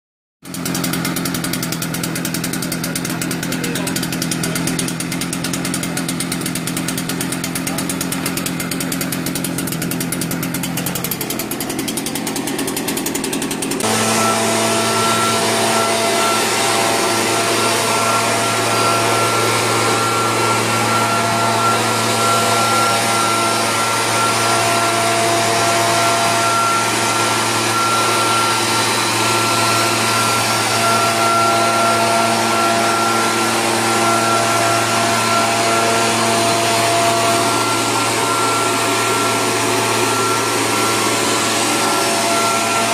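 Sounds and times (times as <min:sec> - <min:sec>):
mist blower engine running: 0:00.4 - 0:42.9.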